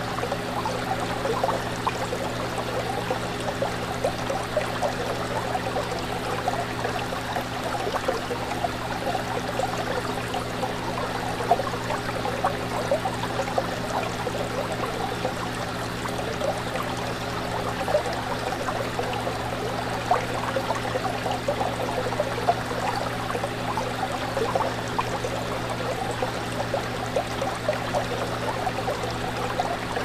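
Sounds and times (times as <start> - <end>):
aquarium water bubbling: 0.0 - 30.0.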